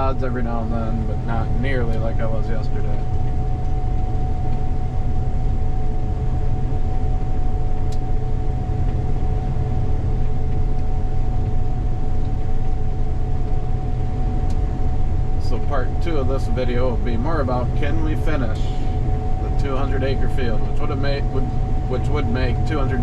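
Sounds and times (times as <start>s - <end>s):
combine harvester rumbling: 0.0s - 23.0s
steady machine whine: 0.0s - 23.0s.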